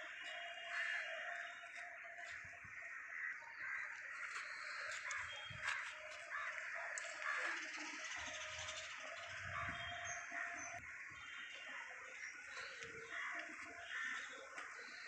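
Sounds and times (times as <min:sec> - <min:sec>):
crows cawing: 0:00.0 - 0:15.0.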